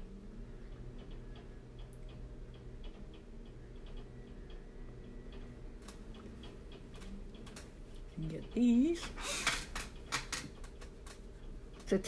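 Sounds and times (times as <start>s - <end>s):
soft regular ticking: 0.0s - 12.0s
steady low hum: 0.0s - 12.0s
sharp clicks: 0.6s - 12.0s.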